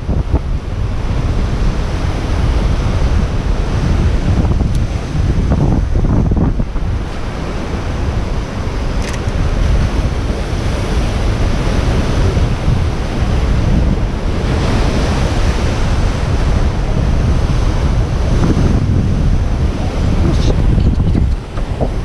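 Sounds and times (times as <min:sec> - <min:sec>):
surf washing: 0:00.0 - 0:22.0
wind buffeting microphone: 0:00.0 - 0:22.0.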